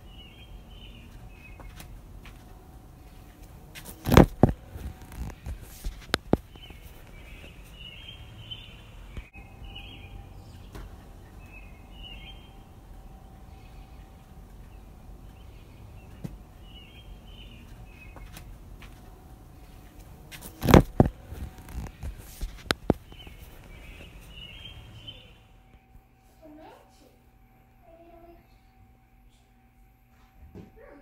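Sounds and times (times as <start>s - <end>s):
birds chirping: 0.0s - 26.0s
faint steady hum: 0.0s - 31.0s.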